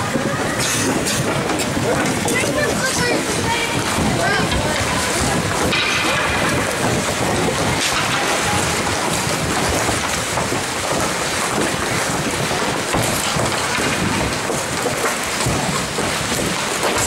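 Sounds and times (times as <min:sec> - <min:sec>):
ice rink rushing din: 0:00.0 - 0:17.0.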